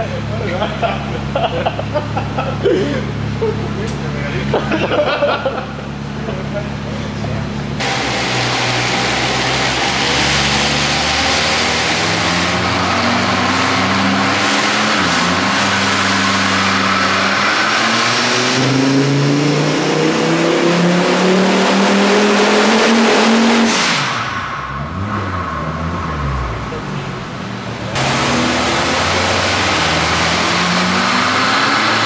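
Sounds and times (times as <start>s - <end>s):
car engine at full throttle: 0.0s - 32.0s.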